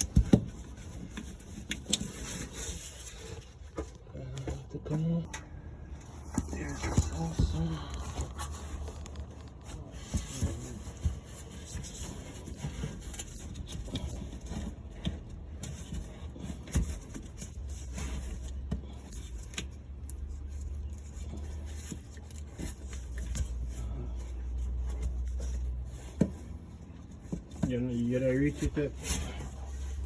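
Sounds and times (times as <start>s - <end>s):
low steady hum: 0.0s - 30.0s
tools clicking and scraping: 0.0s - 30.0s.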